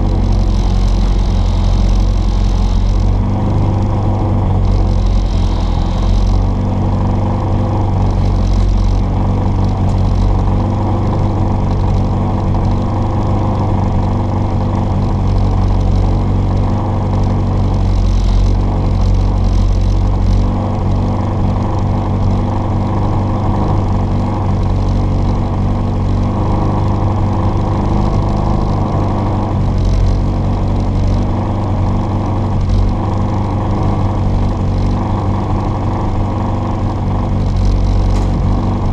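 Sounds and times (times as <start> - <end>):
rally car engine under load: 0.0 - 38.9.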